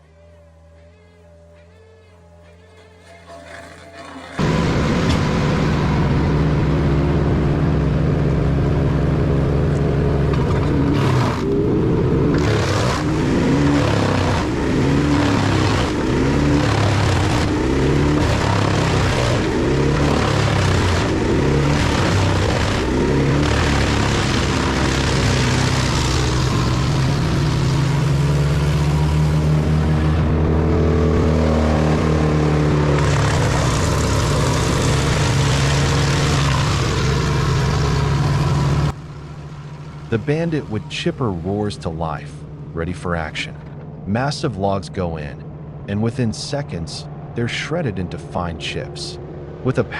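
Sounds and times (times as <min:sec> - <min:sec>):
heavy machine engine running: 0:00.0 - 0:49.9.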